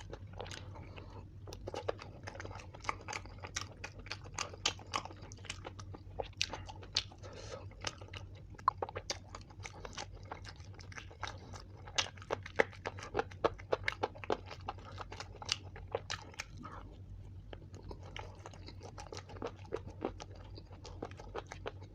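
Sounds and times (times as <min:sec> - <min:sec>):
person chewing food: 0:00.0 - 0:21.9
steady low hum: 0:00.0 - 0:21.9.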